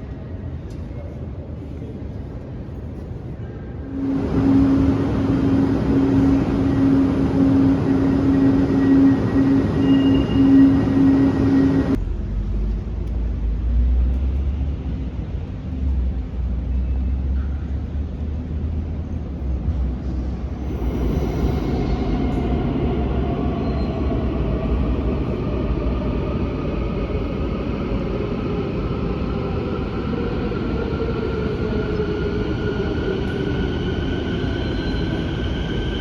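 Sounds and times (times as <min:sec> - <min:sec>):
metro train rolling rush: 0:00.0 - 0:36.0.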